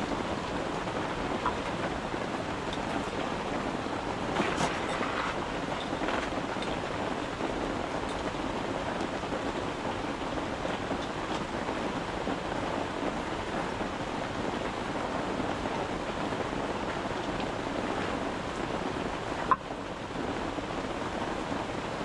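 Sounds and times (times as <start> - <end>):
rain hissing on a tent: 0.0 - 22.0.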